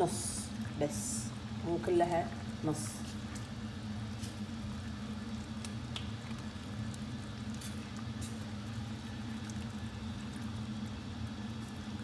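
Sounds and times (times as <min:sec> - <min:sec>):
sauce bubbling in a frying pan: 0:00.0 - 0:12.0
steady low hum: 0:00.0 - 0:12.0.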